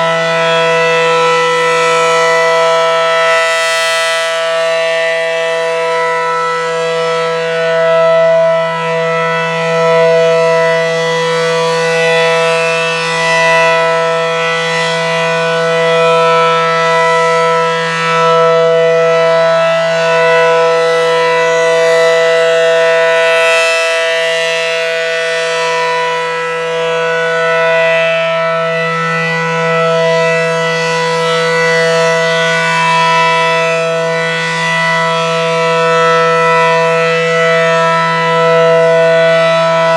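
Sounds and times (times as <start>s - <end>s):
low-pitched warning siren: 0.0s - 39.9s.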